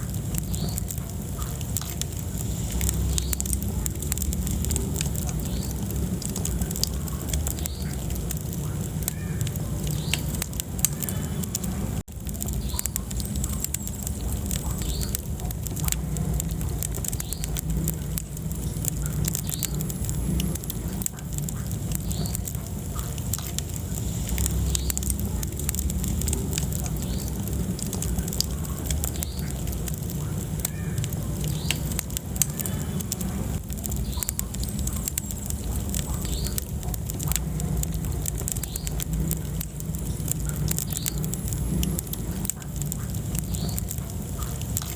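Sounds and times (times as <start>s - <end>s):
fire rumbling: 0.0s - 44.9s
logs crackling and popping: 0.0s - 44.9s.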